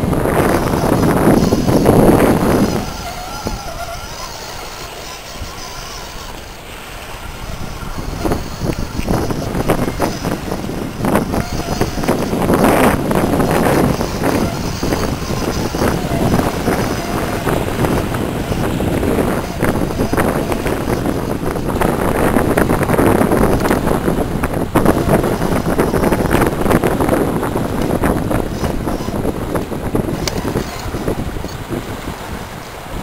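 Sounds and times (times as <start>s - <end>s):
waves washing against rocks: 0.0s - 33.0s
wind buffeting microphone: 0.0s - 33.0s.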